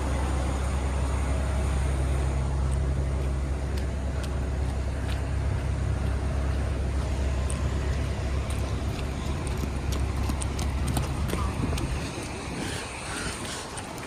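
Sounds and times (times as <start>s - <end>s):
fire truck engine idling: 0.0s - 14.0s.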